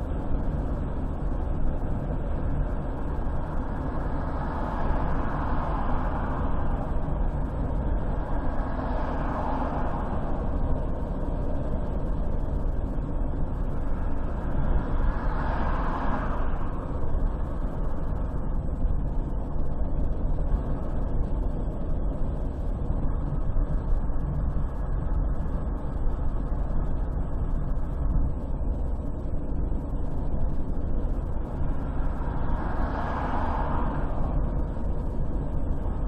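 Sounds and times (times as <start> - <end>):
car driving at highway speed: 0.0 - 36.0
rushing noise of passing vehicle: 2.2 - 29.1, 29.8 - 36.0.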